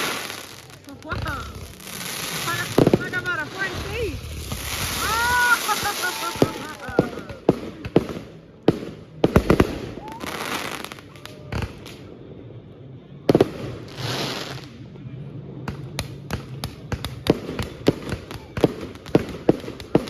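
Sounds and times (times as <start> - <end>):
fireworks crackling bursts: 0.0 - 12.1, 13.3 - 15.0, 15.7 - 20.0
fireworks popping: 0.0 - 12.1, 13.3 - 14.8, 15.6 - 20.0
fireworks bangs: 0.0 - 12.2, 13.3 - 15.0, 15.6 - 20.0.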